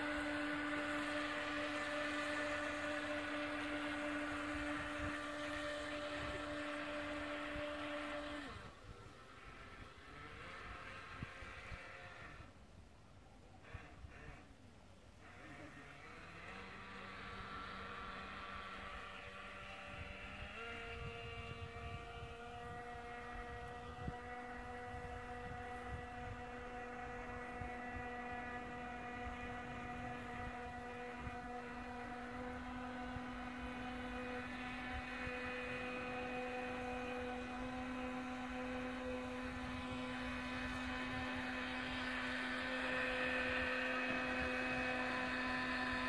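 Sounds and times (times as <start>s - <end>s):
small electric motor humming: 0.0s - 12.7s, 13.4s - 46.0s.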